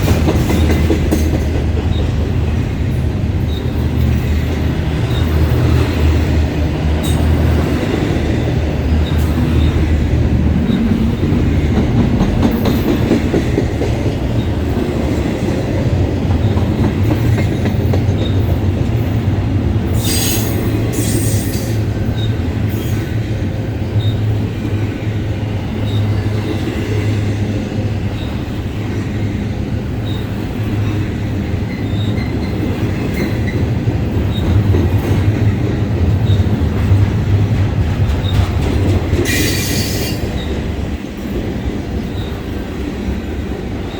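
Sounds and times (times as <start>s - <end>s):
freight train rumbling on rails: 0.0s - 43.9s.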